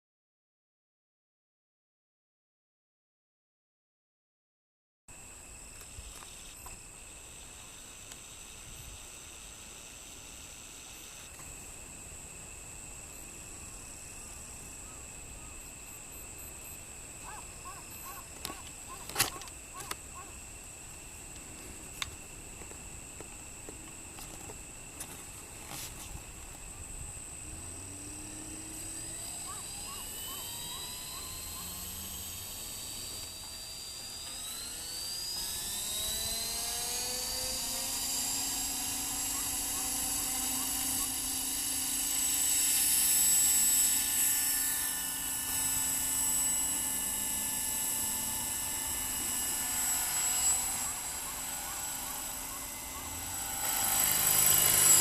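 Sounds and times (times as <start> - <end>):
model helicopter rotor whine: 5.1 - 55.0.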